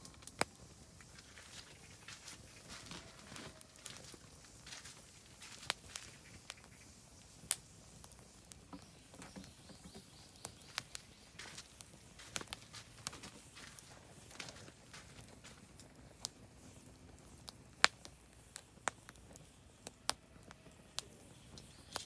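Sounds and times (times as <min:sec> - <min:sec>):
firewood crackling and popping: 0:00.0 - 0:22.0
low fire hiss: 0:00.0 - 0:22.0.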